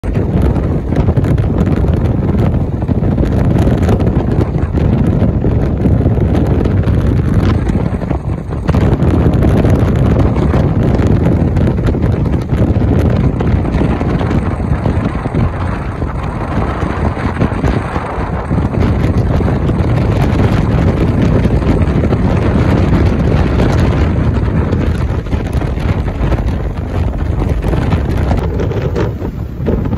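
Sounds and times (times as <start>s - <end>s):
low rumble of road noise: 0.0s - 29.9s
wind rushing over microphone: 0.0s - 29.9s.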